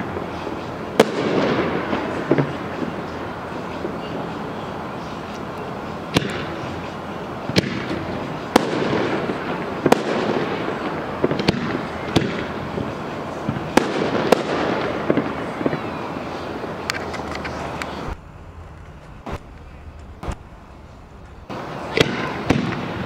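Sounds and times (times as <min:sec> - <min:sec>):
fireworks bangs: 0:00.0 - 0:23.0
rumble of fireworks bursts: 0:00.0 - 0:23.0.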